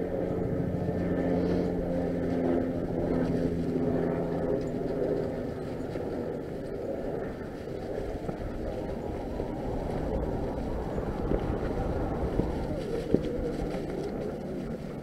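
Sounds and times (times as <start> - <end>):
bike tyres rumbling over leaves: 2.7 - 15.0.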